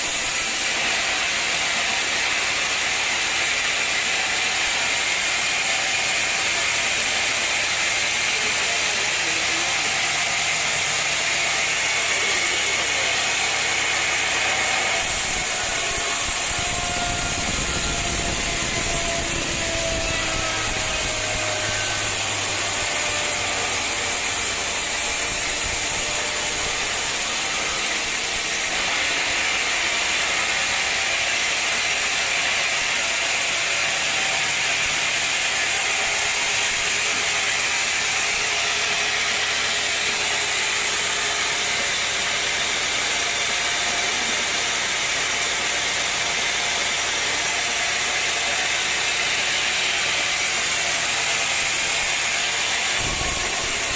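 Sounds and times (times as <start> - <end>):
sawmill machinery rattling: 0.0 - 53.9.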